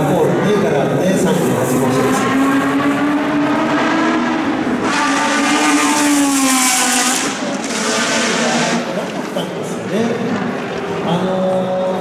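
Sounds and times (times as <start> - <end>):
racing car passing by: 1.3 - 12.0.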